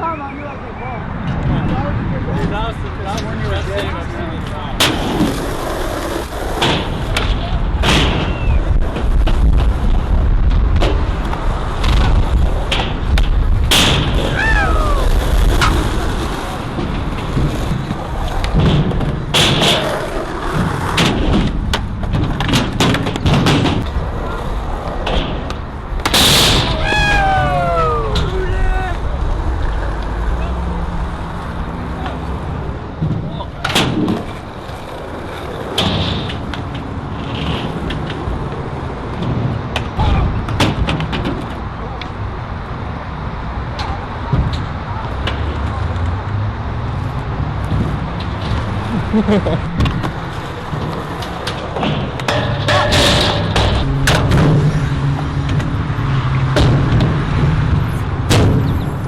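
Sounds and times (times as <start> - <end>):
skateboard wheels rolling on concrete: 0.0 - 59.0
skateboard clacks and thuds: 4.8 - 27.4, 31.1 - 42.2, 43.6 - 49.0, 49.6 - 59.0.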